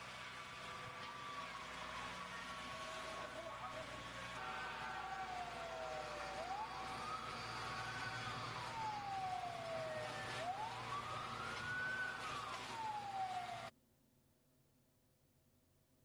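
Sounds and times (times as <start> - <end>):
siren wailing: 0.6 - 13.7.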